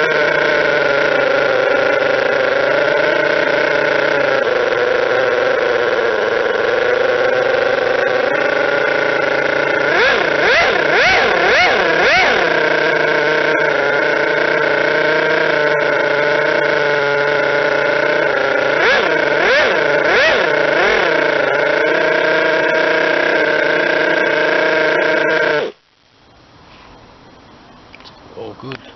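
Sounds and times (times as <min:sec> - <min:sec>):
model nitro engine idling and revving: 0:00.0 - 0:25.8.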